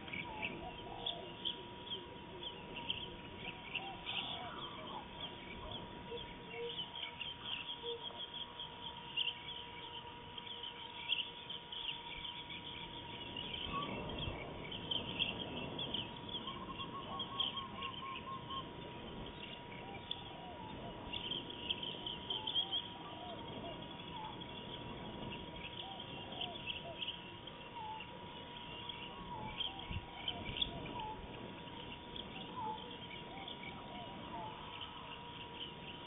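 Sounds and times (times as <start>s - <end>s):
low curling bird call: 0.0s - 36.0s.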